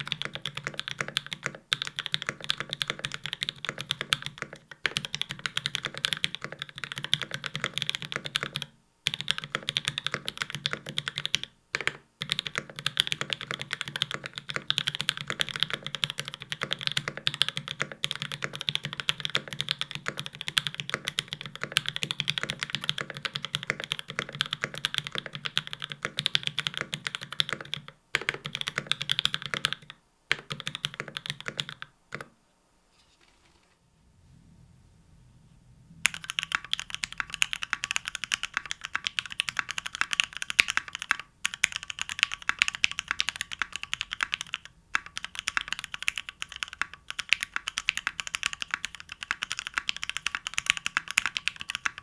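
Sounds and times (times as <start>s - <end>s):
mechanical keyboard typing: 0.0s - 32.3s, 36.1s - 52.0s.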